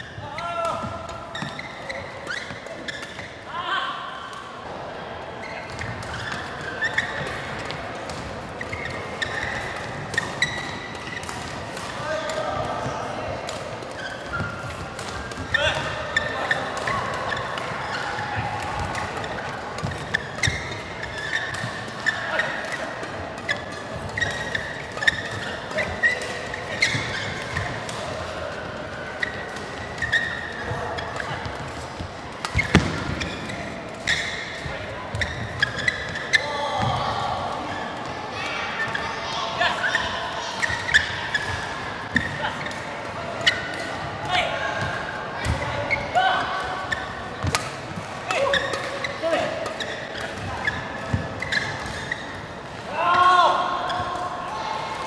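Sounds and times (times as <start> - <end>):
rackets hitting shuttlecock: 0.0 - 3.4, 5.5 - 39.1, 39.7 - 52.9
shoes squeaking on floor: 0.0 - 3.5, 5.4 - 12.8, 13.8 - 54.3.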